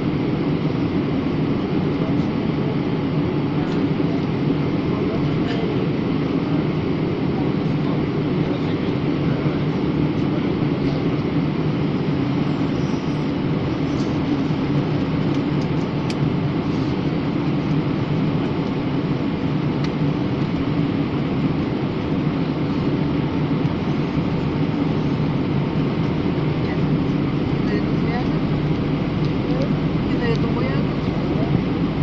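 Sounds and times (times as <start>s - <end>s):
aeroplane cabin engine drone: 0.0s - 32.0s.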